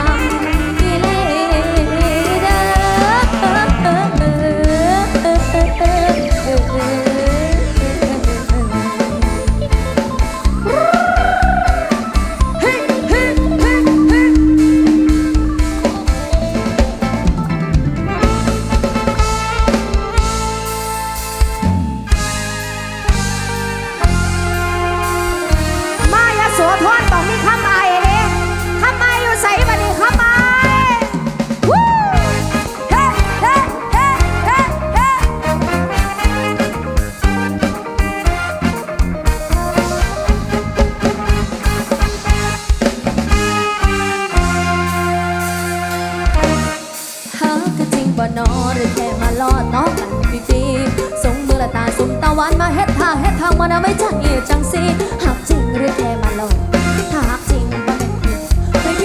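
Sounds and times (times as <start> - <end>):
lead instrument swooping notes: 0.0 - 47.4
drum kit beat: 0.0 - 59.0
guitar melody: 0.0 - 59.0
keyboard melody: 0.0 - 59.0.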